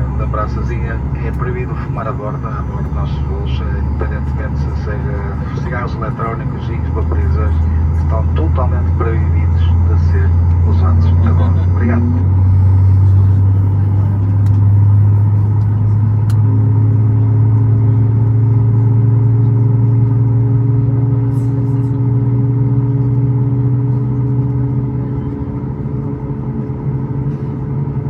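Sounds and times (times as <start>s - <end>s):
aircraft cabin engine drone: 0.0s - 28.0s.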